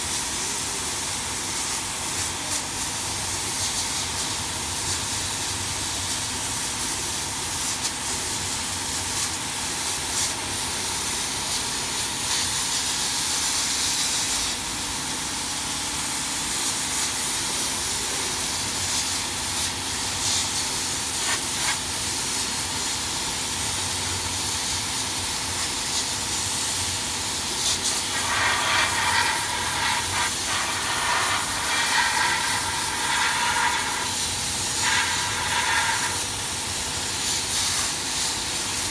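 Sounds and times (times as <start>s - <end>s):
hiss of air: 6.0s - 38.9s.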